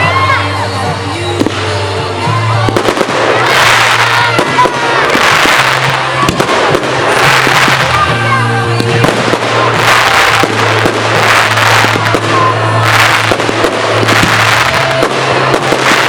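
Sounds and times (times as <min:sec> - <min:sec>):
fireworks crackling and banging: 0:00.0 - 0:16.0
music playing: 0:00.0 - 0:16.0
firework whistle: 0:02.5 - 0:16.0.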